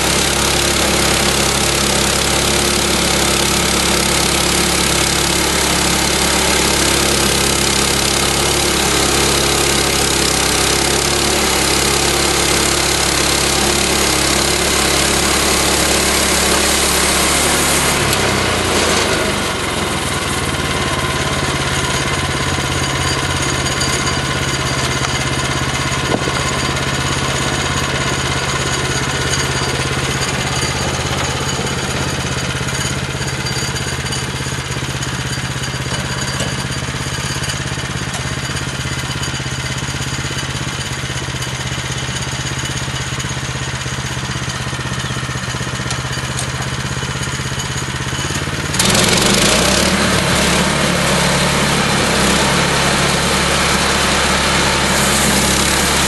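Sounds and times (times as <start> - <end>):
sawmill engine idling: 0.0 - 56.0.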